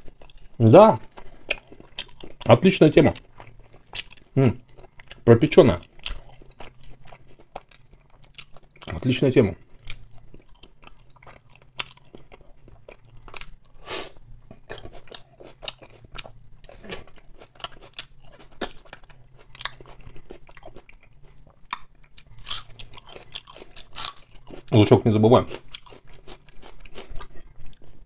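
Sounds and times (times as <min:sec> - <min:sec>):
person chewing food: 0:00.0 - 0:24.8, 0:25.4 - 0:28.0.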